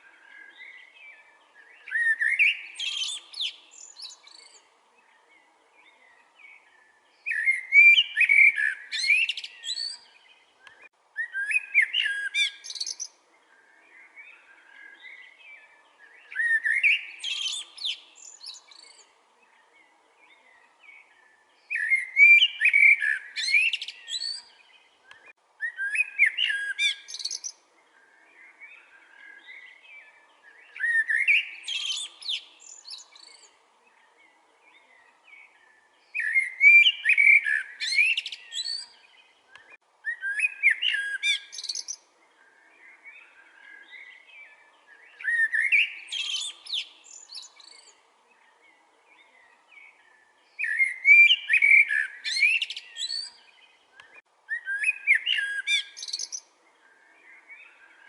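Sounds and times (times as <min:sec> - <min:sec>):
soft bird chirps: 0:00.0 - 0:58.0
songbird warbling song: 0:00.0 - 0:58.0.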